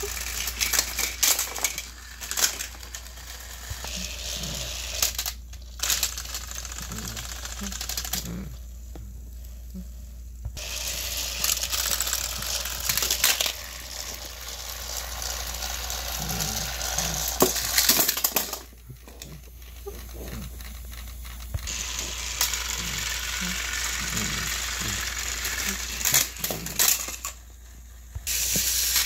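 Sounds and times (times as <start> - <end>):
wheels clattering on plastic track: 0.0 - 8.2, 10.6 - 27.4, 28.3 - 29.0
toy train motor whirring: 0.0 - 8.6, 10.6 - 29.0.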